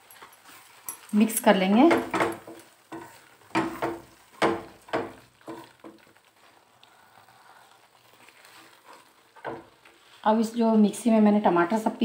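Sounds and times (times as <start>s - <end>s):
gravy sizzling: 0.0s - 12.0s
wooden spatula scraping a pan: 0.0s - 12.0s.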